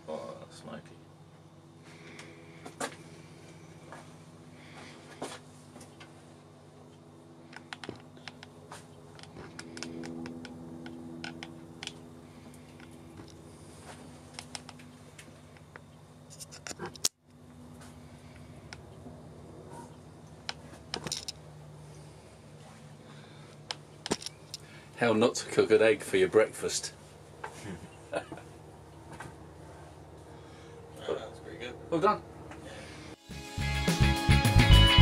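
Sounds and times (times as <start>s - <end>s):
microwave oven humming: 0.0s - 16.3s, 17.2s - 33.9s.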